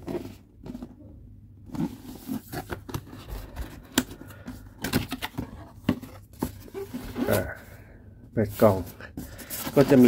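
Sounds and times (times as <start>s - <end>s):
cardboard scraping and rustling: 0.0s - 1.0s, 1.6s - 7.7s, 8.4s - 10.0s.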